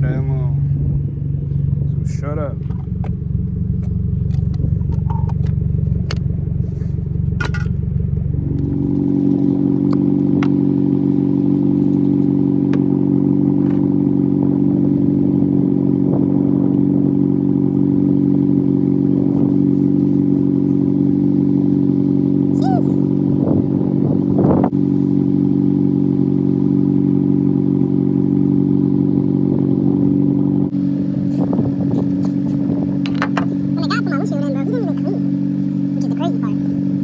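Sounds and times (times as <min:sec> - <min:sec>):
car engine running: 0:00.0 - 0:37.0.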